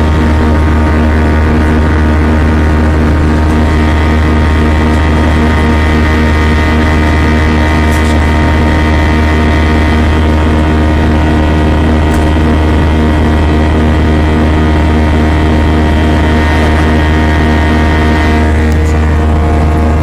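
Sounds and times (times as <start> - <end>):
jet engines droning in cabin: 0.0 - 20.0
steady engine whining tones: 0.0 - 20.0.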